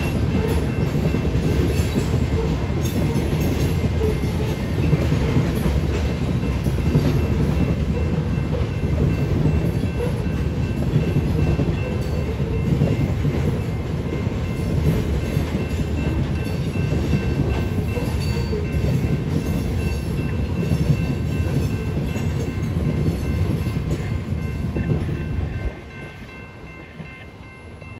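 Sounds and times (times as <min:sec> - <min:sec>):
steel wheels rumbling on rail: 0:00.0 - 0:27.9.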